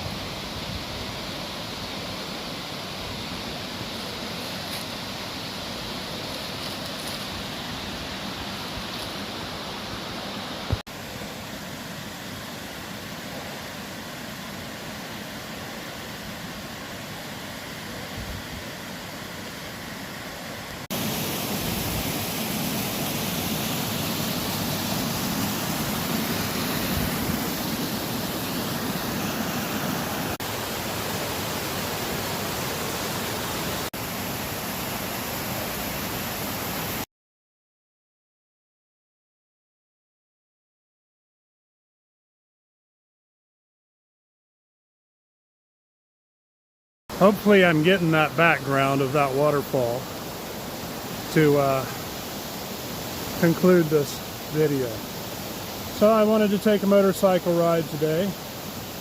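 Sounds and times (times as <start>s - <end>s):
waterfall rushing: 0.0s - 37.0s, 47.1s - 59.0s.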